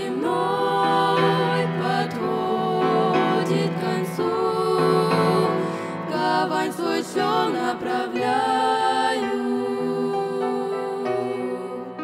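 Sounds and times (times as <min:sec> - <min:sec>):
girls singing a hymn in harmony: 0:00.0 - 0:12.0.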